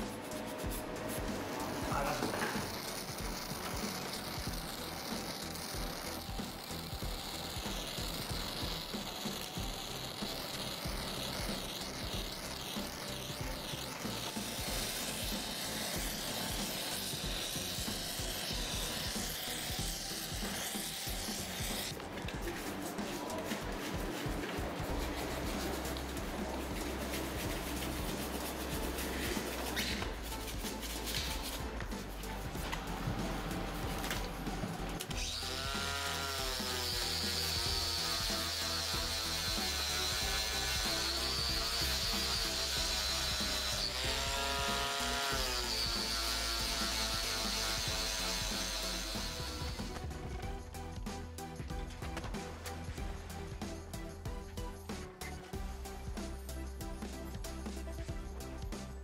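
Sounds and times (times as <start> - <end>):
welding arc crackling: 0.0 - 50.1
scratchy rubbing of metal fitting: 0.0 - 50.3
background music: 0.0 - 59.0.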